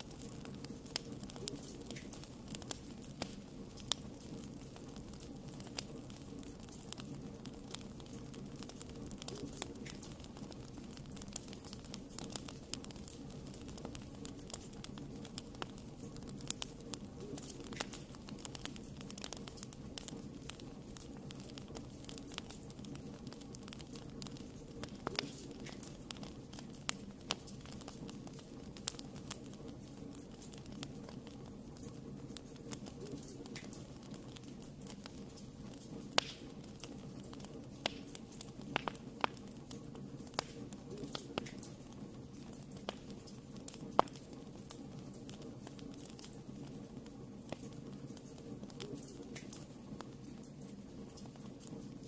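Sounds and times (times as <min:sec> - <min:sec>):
fire crackling and popping: 0:00.0 - 0:52.0
fire rumbling: 0:00.0 - 0:52.0.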